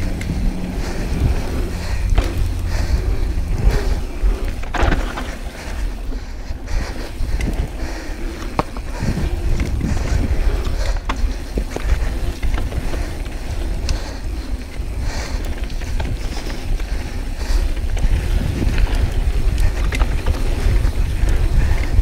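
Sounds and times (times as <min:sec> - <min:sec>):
bike clicking and rattling: 0:00.0 - 0:22.0
tyres rolling over dirt and rocks: 0:00.0 - 0:22.0
wind buffeting microphone: 0:00.0 - 0:22.0.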